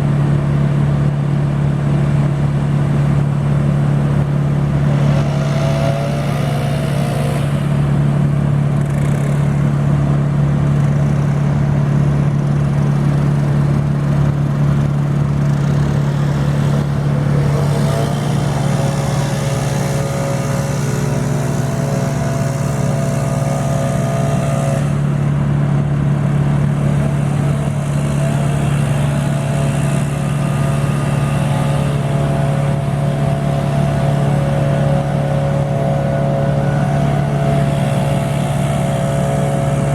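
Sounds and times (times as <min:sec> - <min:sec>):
machinery engine running: 0:00.0 - 0:39.9
high whine: 0:03.4 - 0:39.9.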